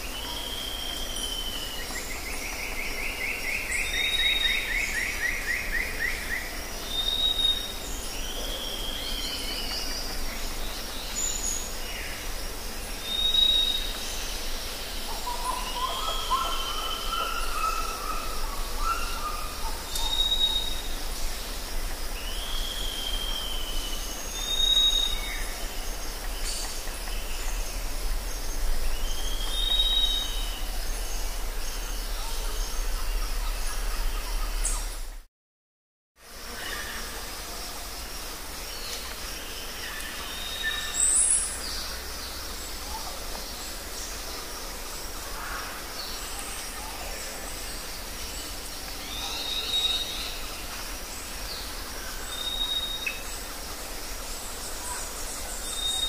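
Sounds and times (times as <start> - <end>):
steady hiss and low hum: 0.0 - 35.2, 36.2 - 56.0.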